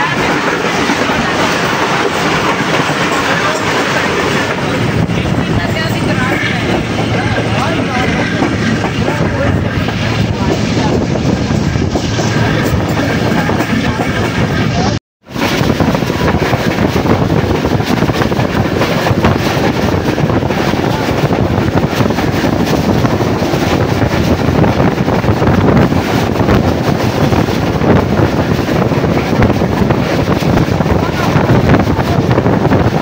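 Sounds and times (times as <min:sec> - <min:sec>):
train wheels on rails: 0:00.0 - 0:33.0
wind rushing over microphone: 0:00.0 - 0:33.0.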